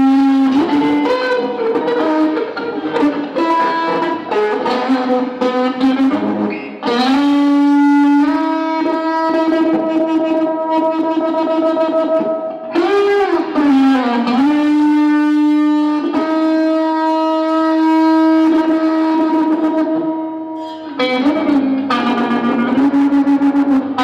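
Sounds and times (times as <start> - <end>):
distorted electric guitar feedback: 0.0 - 24.0.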